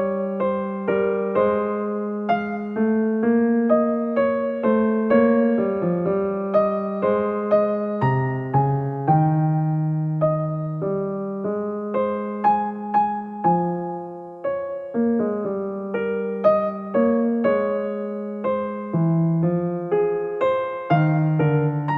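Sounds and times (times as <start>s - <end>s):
gentle electric piano melody: 0.0s - 21.9s.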